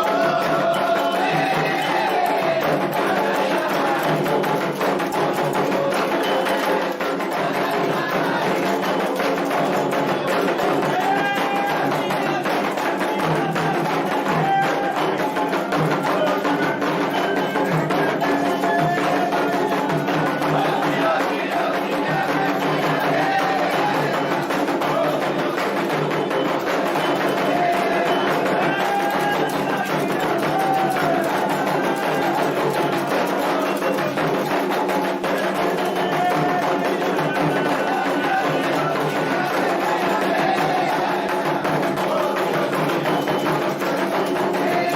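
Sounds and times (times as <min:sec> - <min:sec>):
bell playing rhythm: 0:00.0 - 0:44.9
hand drums playing rhythm: 0:00.0 - 0:44.9
people singing: 0:00.0 - 0:44.9.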